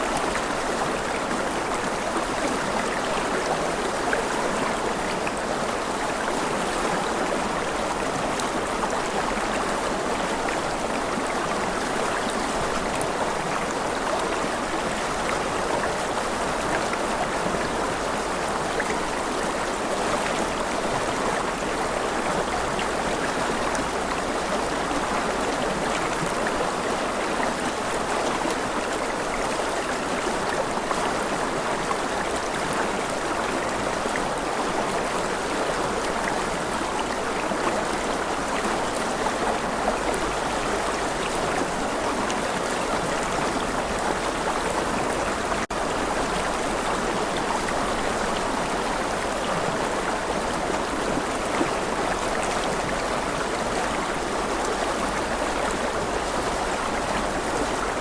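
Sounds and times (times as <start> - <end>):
stream rushing and gurgling: 0.0 - 58.0.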